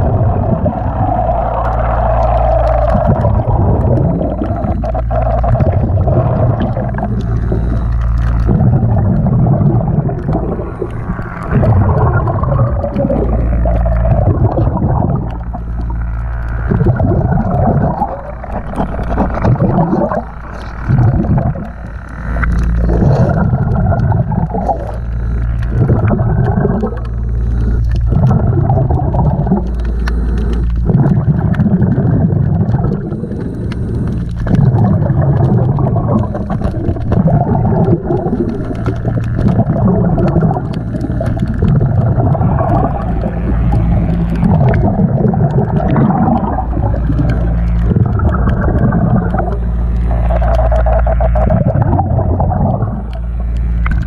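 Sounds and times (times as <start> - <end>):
low steady hum: 0.0 - 54.0
underwater gurgling and rushing: 0.0 - 54.0.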